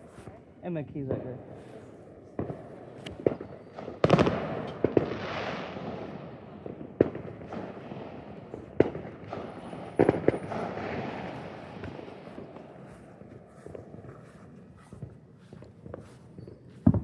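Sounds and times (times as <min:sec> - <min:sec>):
fireworks bursting with echo: 0:00.0 - 0:17.0.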